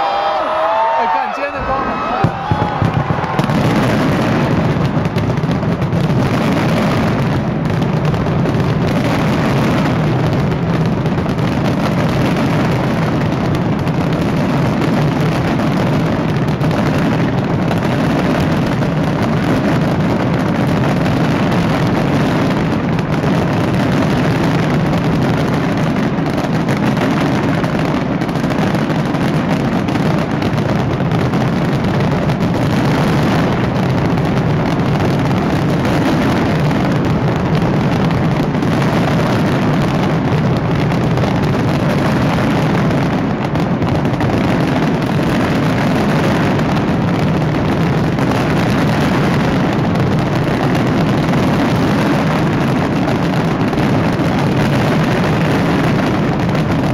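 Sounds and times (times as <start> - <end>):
fireworks rumbling: 0.0 - 56.9.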